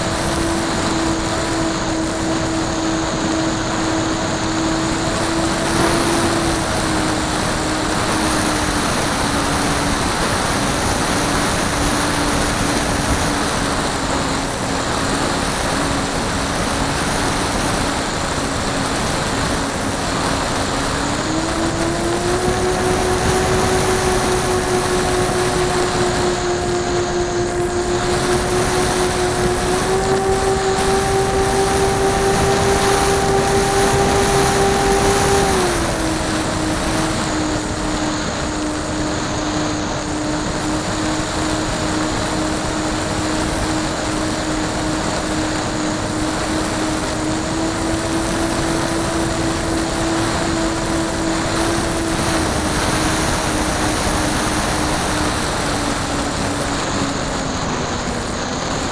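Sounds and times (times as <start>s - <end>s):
model airplane motor whine: 0.0s - 58.9s
rushing wind noise: 0.0s - 58.9s.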